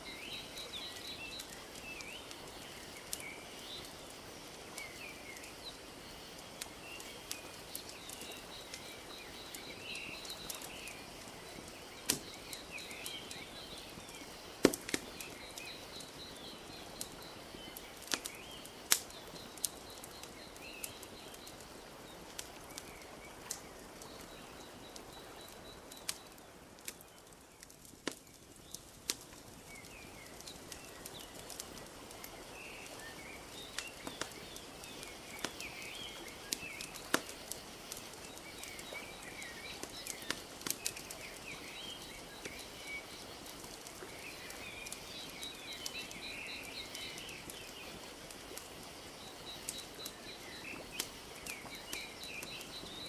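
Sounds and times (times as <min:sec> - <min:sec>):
small birds chirping: 0:00.0 - 0:53.0
wood fire crackling and popping: 0:00.0 - 0:53.0.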